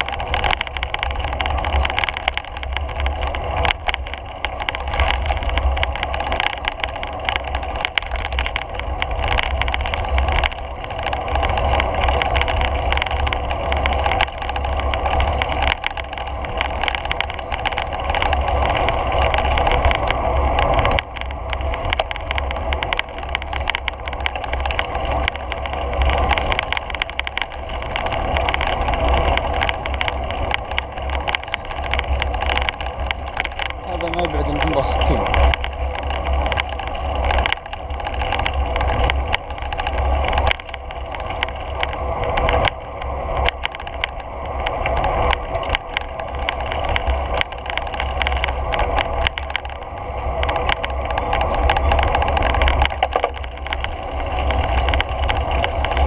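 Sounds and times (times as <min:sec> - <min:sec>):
rolling rumble on paved path: 0:00.0 - 0:56.0.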